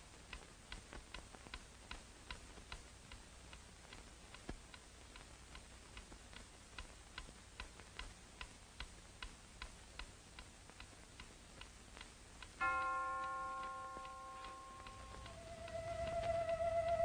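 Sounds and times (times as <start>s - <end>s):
clock ticking: 0.1s - 17.0s.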